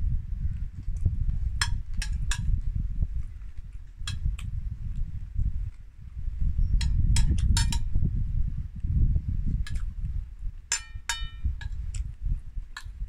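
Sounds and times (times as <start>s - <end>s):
low rumble: 0.0s - 10.7s.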